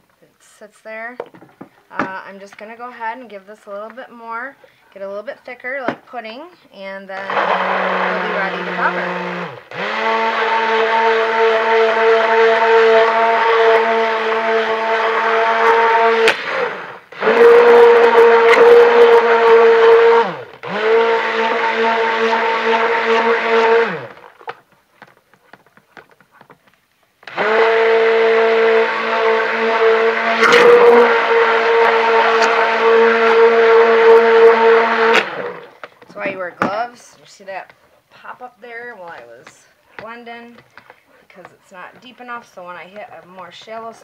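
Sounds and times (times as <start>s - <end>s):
stick blender motor running: 7.1s - 26.6s, 27.2s - 38.4s, 39.0s - 44.0s.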